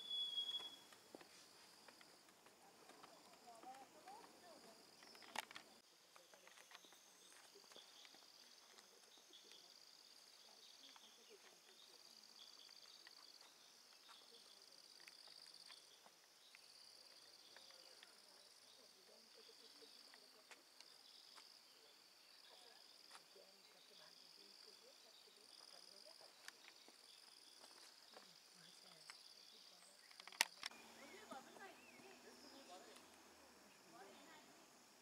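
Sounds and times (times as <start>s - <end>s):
forest insects chirring: 0.0s - 35.0s.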